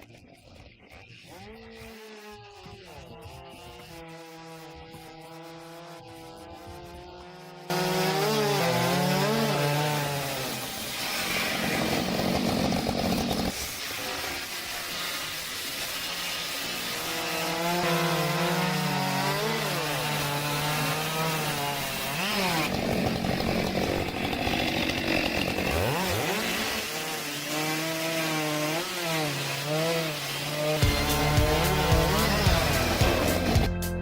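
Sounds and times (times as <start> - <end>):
rasping wood cutting: 1.2 - 33.8
small engine revving under load: 1.3 - 13.6, 17.0 - 33.8.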